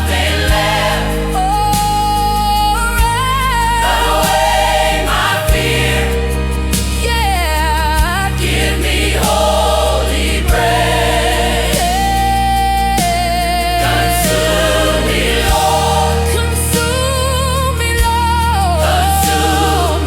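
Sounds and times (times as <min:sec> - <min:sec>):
choir singing: 0:00.0 - 0:02.4, 0:03.5 - 0:06.9, 0:08.0 - 0:17.8, 0:18.5 - 0:20.0
low bass notes: 0:00.0 - 0:20.0.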